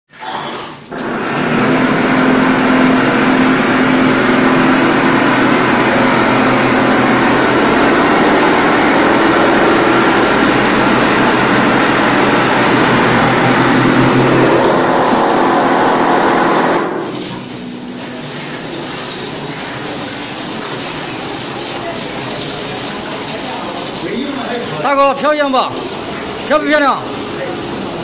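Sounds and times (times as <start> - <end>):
plastering machine running: 0.1 - 28.0.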